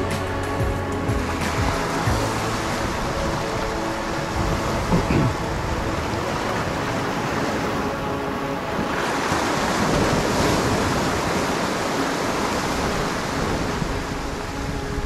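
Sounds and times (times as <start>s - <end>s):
sea swell surging against rock: 0.2s - 15.0s.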